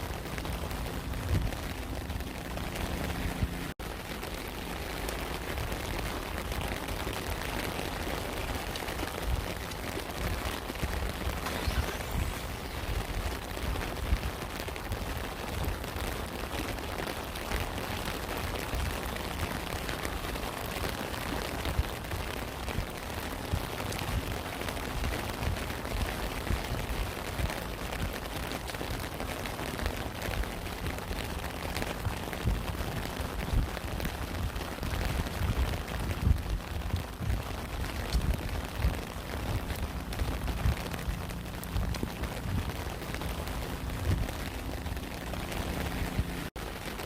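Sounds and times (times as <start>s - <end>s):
raindrops pattering: 0.0s - 47.0s
steady rain hiss: 0.0s - 47.0s.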